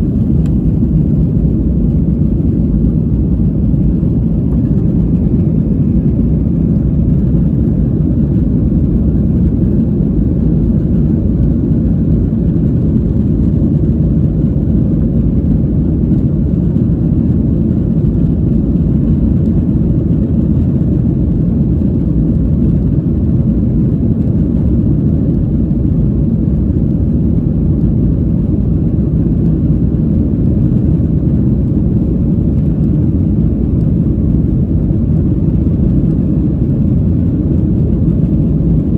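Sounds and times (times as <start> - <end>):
jet engines from inside cabin: 0.0 - 38.9.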